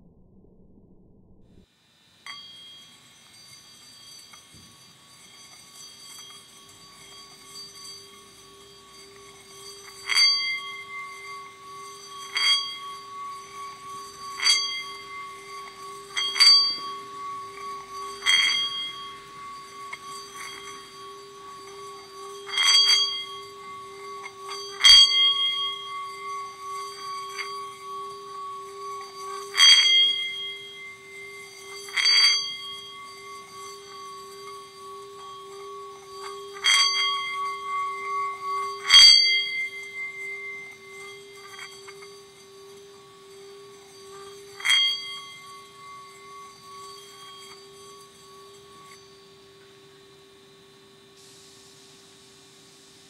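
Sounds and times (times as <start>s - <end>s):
higher ringing strikes: 0.0s - 51.3s
singing bowl low hum: 0.0s - 53.0s.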